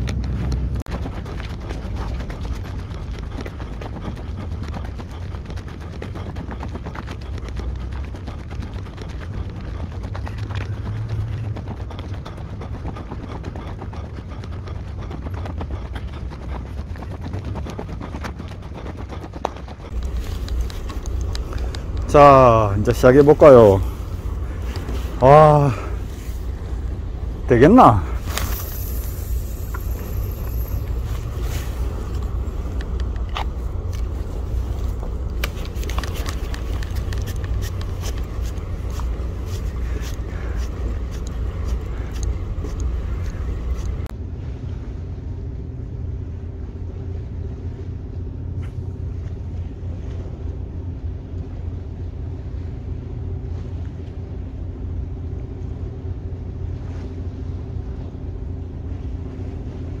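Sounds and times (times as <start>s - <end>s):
faint steady hum: 0.0s - 60.0s
low outdoor rumble by sea: 0.0s - 60.0s.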